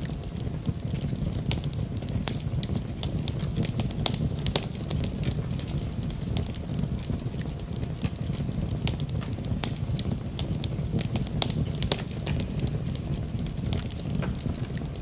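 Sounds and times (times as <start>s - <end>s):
burning wood crackling: 0.0s - 15.0s
rumble of fire flames: 0.0s - 15.0s.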